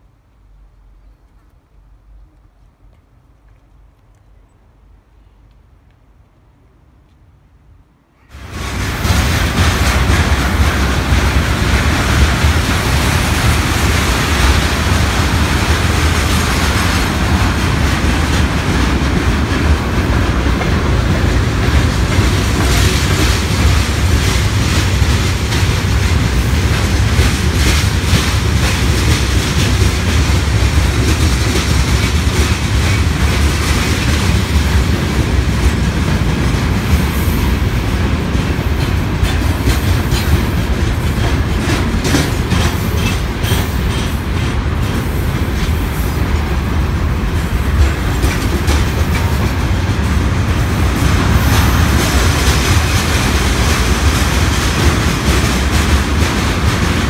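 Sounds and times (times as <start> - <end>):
train wheels on rails: 8.2 - 57.0.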